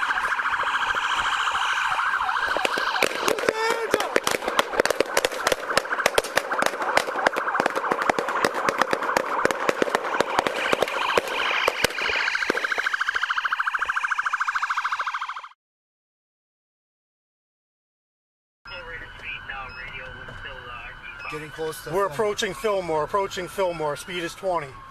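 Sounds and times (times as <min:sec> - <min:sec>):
police siren wailing: 0:00.0 - 0:15.6, 0:18.7 - 0:24.9.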